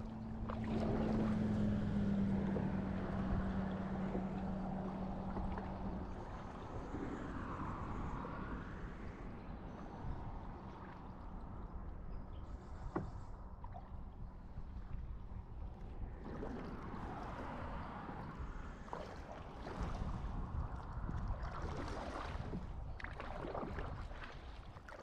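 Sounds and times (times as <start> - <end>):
water gurgling around kayak: 0.0 - 25.0
wind rumble on microphone: 0.0 - 25.0.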